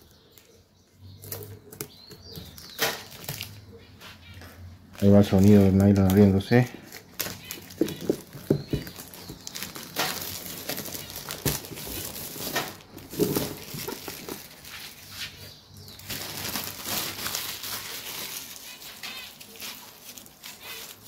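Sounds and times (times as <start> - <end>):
plastic wrap crinkling and tearing: 1.2 - 3.7, 4.9 - 21.0.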